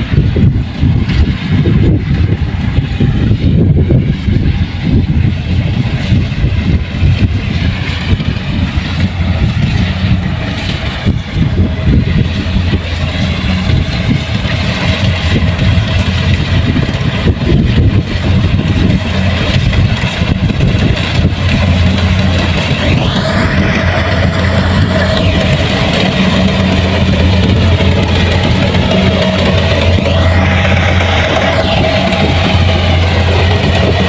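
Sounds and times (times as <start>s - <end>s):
combine harvester diesel engine: 0.0s - 34.0s.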